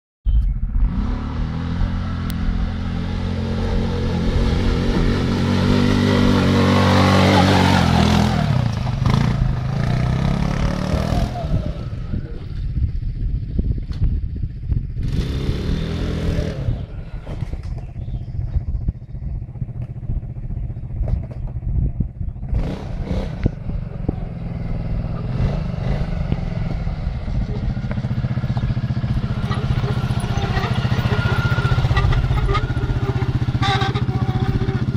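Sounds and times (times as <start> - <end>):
quad bike engine revving: 0.7 - 12.7, 14.8 - 18.6, 19.3 - 34.9.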